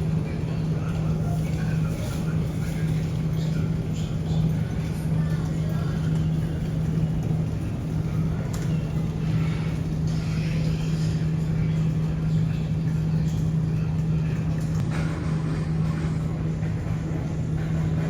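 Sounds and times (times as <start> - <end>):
faint voices: 0.0 - 18.0
low mechanical drone: 0.0 - 18.0.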